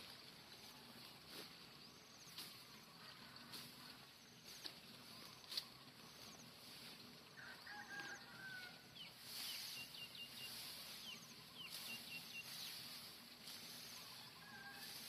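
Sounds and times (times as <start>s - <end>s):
faint birdsong: 0.0s - 15.0s.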